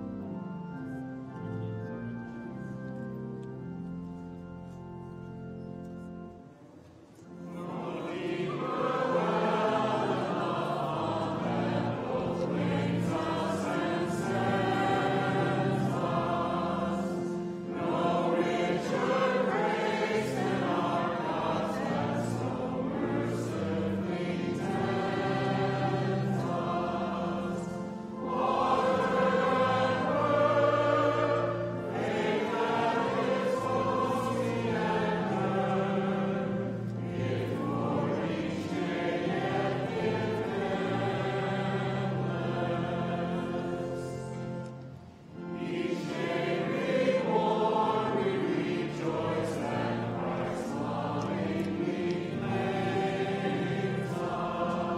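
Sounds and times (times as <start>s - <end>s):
hymn accompaniment: 6.0s - 54.9s
large crowd singing a hymn: 6.6s - 54.9s.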